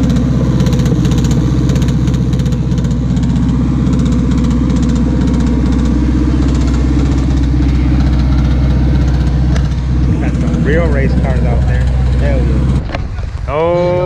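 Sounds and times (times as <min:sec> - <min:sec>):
car engine idling loudly: 0:00.0 - 0:14.0.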